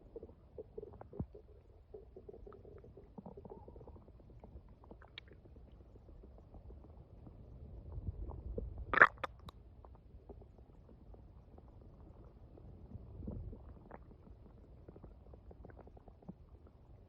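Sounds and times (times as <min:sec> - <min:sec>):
stomach rumbling and gurgling: 0:00.0 - 0:17.0.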